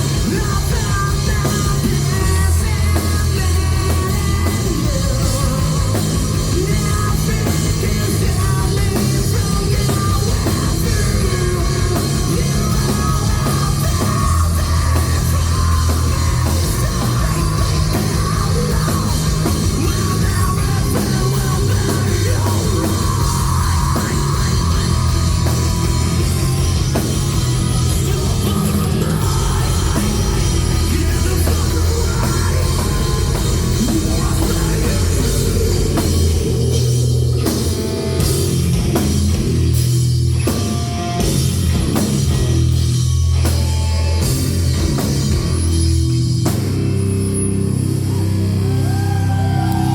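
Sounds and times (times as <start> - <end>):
metal band playing live: 0.0 - 49.9
pounding drum kit: 0.0 - 49.9.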